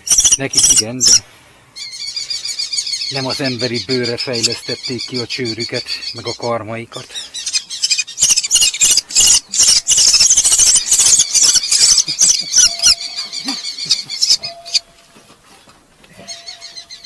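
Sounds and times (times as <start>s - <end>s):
falcon chicks shrieking: 0.0s - 1.2s, 1.8s - 15.0s, 16.1s - 17.0s.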